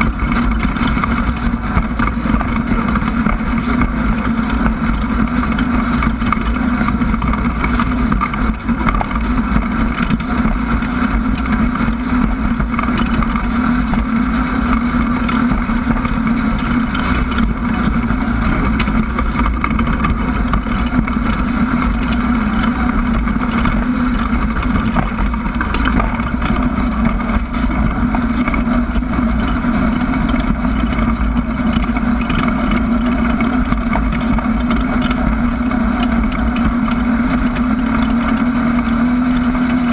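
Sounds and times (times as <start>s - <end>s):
buggy engine running steadily: 0.0s - 39.9s
wind and road noise: 0.0s - 39.9s.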